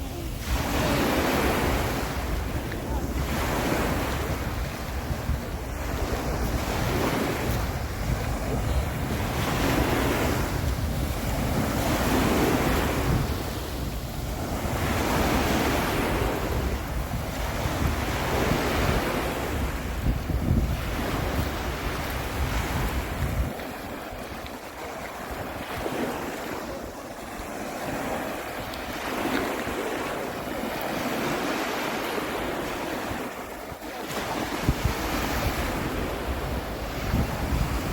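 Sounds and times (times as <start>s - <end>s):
sea waves breaking on beach: 0.0s - 37.9s
wind rumbling on microphone: 0.0s - 37.9s.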